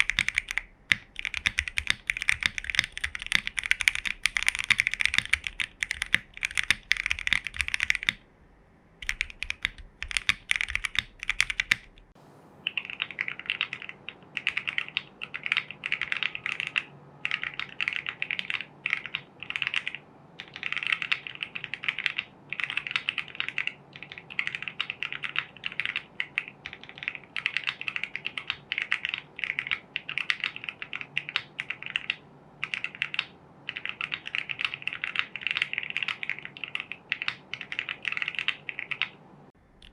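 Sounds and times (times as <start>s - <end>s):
mechanical keyboard typing: 0.0s - 8.2s, 9.0s - 12.1s, 12.7s - 39.2s.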